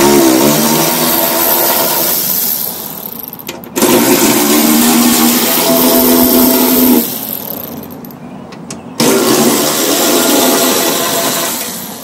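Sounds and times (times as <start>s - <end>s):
power ratchet whirring: 0.0s - 8.2s, 9.0s - 12.0s.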